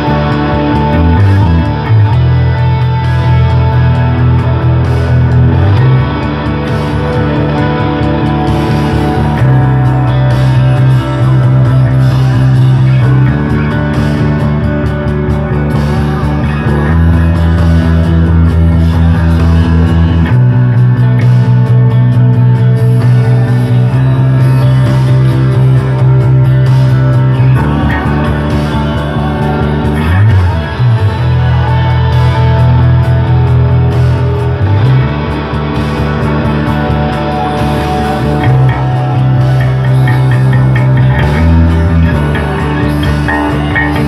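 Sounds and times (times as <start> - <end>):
electric bass playing low notes: 0.0 - 44.0
rock backing track with singing: 0.0 - 44.0.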